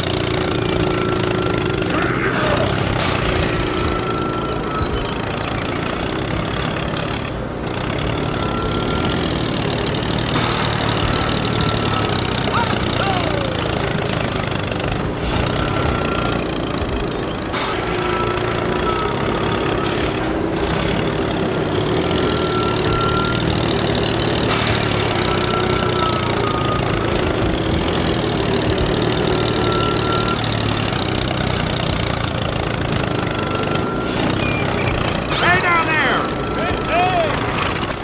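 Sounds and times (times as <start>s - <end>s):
toy tractor engine chugging: 0.0s - 38.0s.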